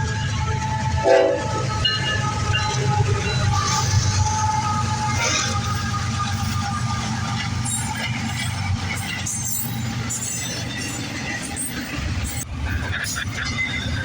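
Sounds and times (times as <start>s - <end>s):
train wheels rumbling on rail: 0.0s - 14.0s
metallic screeches and rattles: 1.7s - 14.0s.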